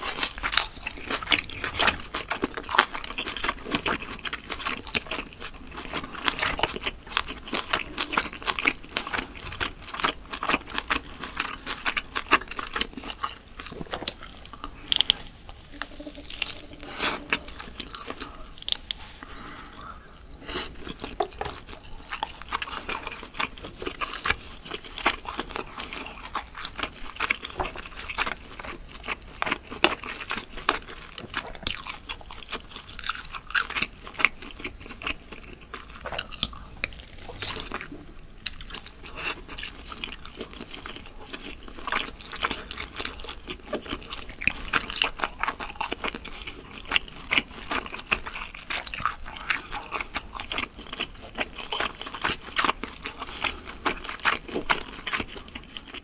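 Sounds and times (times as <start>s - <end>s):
chewing meat: 0.0s - 56.0s.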